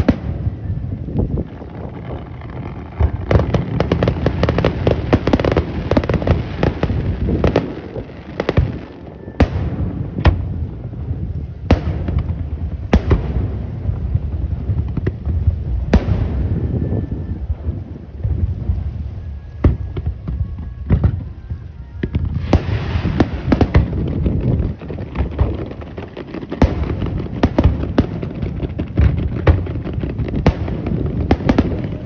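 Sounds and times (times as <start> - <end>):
fireworks crackling bursts: 0.0 - 32.0
fireworks sharp bangs: 0.0 - 32.0
low rumble: 0.0 - 32.0.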